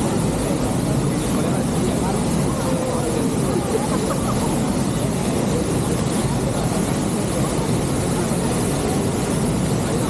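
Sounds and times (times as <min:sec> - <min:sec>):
faint voices: 0:00.0 - 0:10.0.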